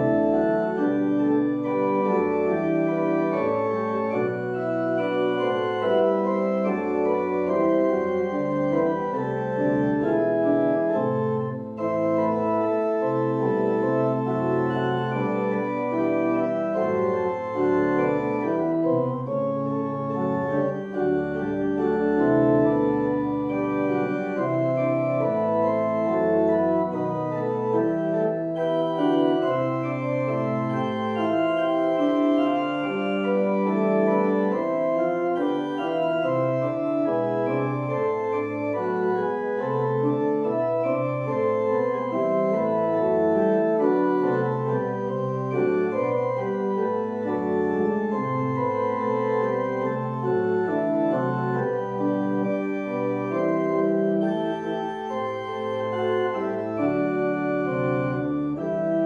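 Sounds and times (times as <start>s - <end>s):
organ playing chords and melody: 0.0s - 59.0s.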